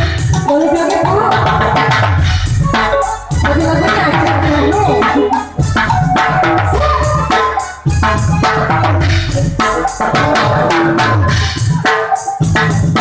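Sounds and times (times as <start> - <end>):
loud music with drums and bass: 0.0 - 13.0.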